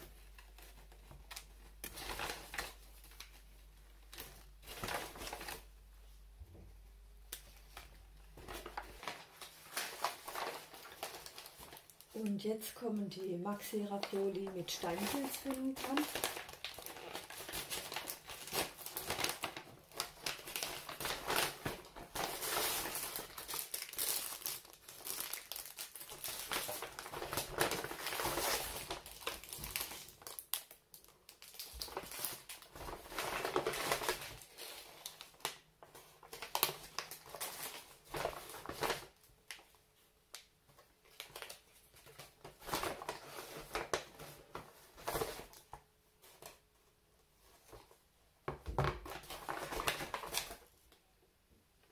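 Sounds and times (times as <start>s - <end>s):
paper bag crinkling: 0.0s - 5.8s, 7.5s - 39.7s, 41.1s - 46.4s, 48.9s - 50.7s
plastic bags rustling: 0.0s - 6.2s, 7.3s - 39.8s, 40.8s - 46.6s, 48.8s - 50.9s.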